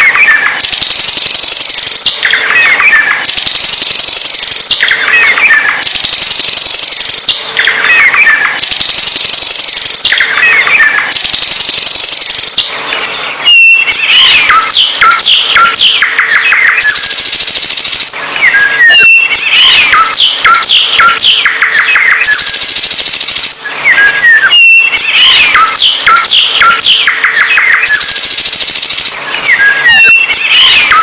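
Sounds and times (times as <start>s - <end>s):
high buzzing trill: 0.0s - 31.0s
songbird singing: 0.0s - 31.0s.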